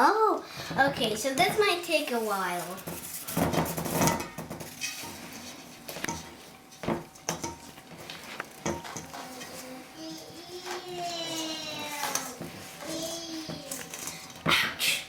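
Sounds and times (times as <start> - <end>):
utensil stirring thick batter: 0.0 - 14.5.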